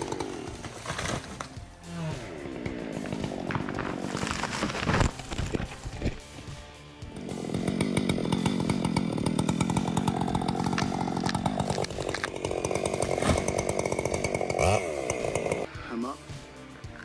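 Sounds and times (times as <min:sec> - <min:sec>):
chainsaw running: 0:00.0 - 0:05.4, 0:07.0 - 0:15.7.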